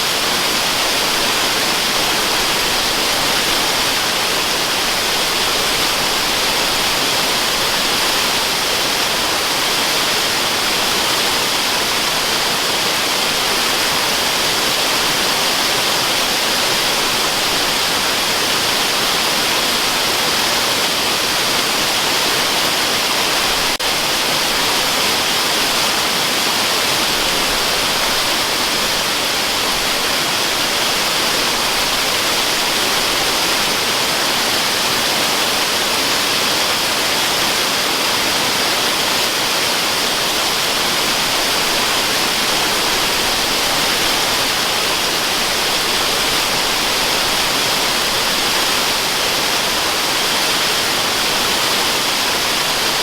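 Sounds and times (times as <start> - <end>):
waterfall hiss: 0.0 - 53.0.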